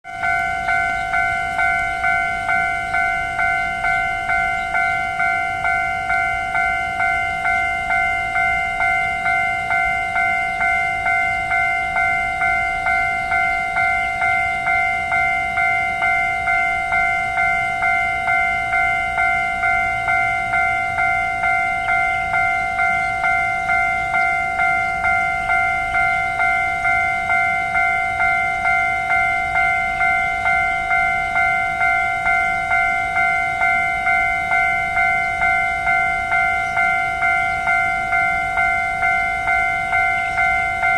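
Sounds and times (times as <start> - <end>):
level crossing bell ringing: 0.1 - 40.9.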